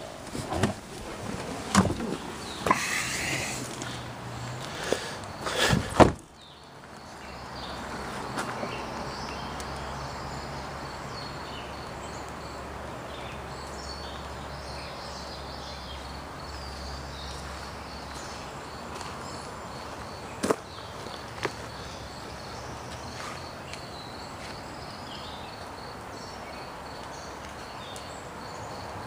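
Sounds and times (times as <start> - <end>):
insects chirping: 0.4 - 29.0.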